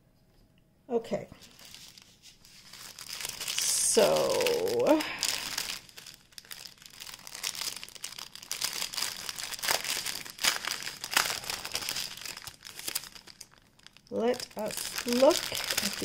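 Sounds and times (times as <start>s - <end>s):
plastic bags crinkling: 1.4s - 16.0s.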